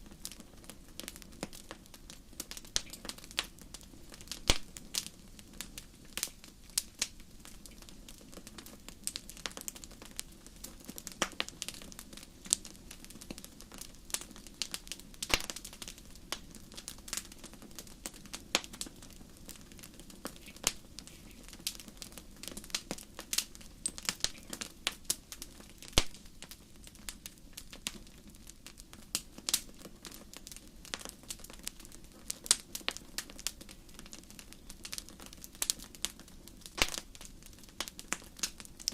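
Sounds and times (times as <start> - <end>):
campfire popping: 0.0 - 38.9.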